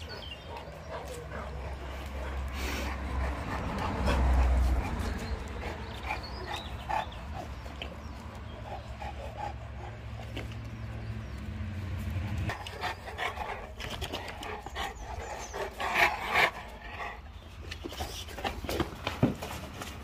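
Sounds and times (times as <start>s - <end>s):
dogs panting: 0.0s - 20.0s.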